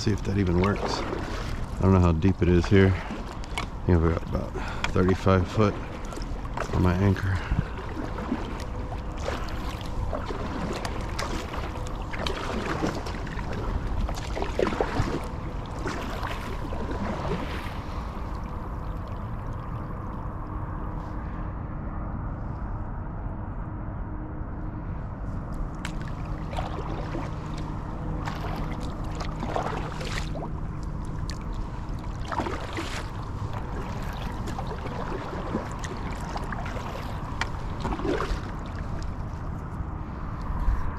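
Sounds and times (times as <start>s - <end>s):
paddle splashing water: 0.0s - 20.2s, 25.7s - 40.9s
wind rumble on microphone: 0.0s - 40.9s.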